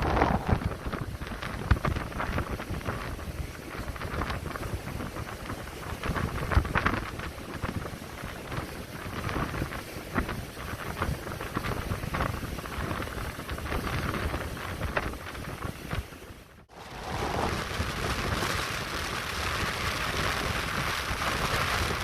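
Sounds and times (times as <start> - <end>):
waves breaking on shore: 0.0 - 22.0
wind buffeting microphone: 0.0 - 22.0.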